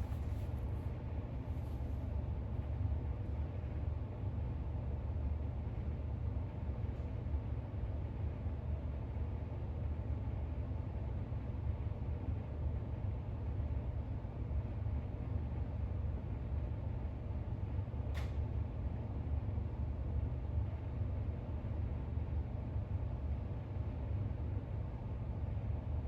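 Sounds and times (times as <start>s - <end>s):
low room rumble: 0.0s - 26.0s.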